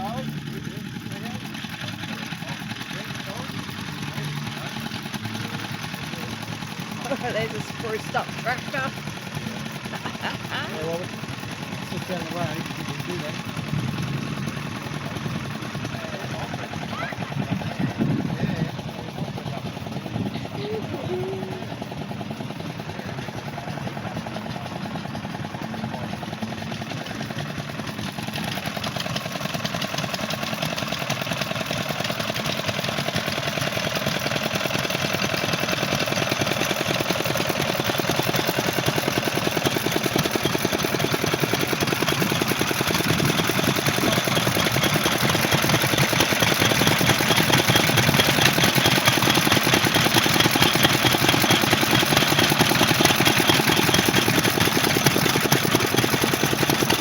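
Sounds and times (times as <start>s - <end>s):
engine idling with fast chug: 0.0s - 57.0s.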